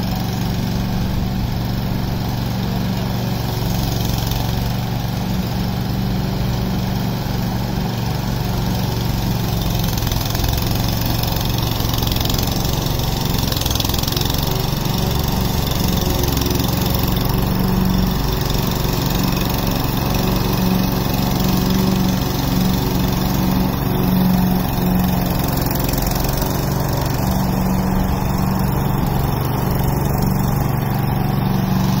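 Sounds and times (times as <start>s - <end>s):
lawn mower running through grass: 0.0s - 32.0s.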